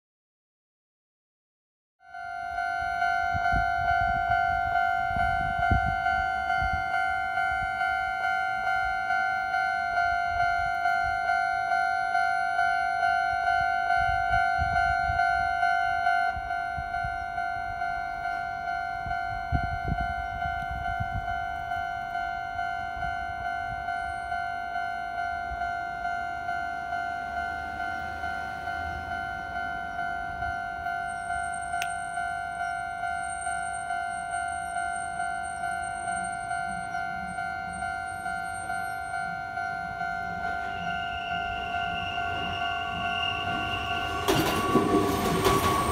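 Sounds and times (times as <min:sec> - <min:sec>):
level crossing electronic bell: 0:02.1 - 0:45.9.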